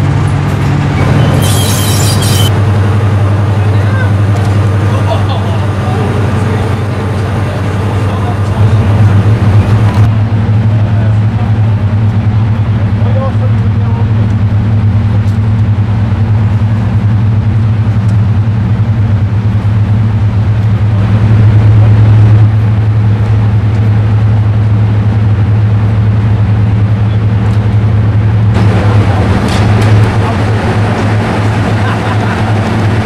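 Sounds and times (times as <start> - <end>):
diesel locomotive idling: 0.0 - 33.0.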